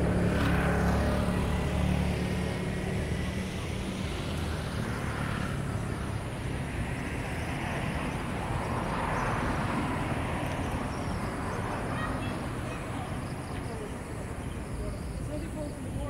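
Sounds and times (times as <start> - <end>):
passing vehicle engine: 0.0 - 15.6
distant city traffic rumble: 0.0 - 16.0.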